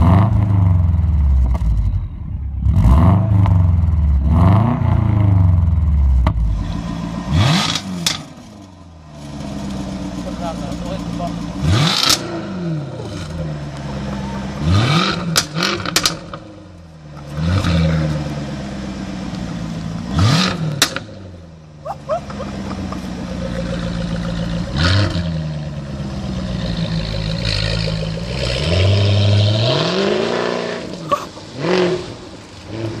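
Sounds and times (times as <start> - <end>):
car engine revving: 0.0 - 33.0
exhaust crack: 0.0 - 33.0.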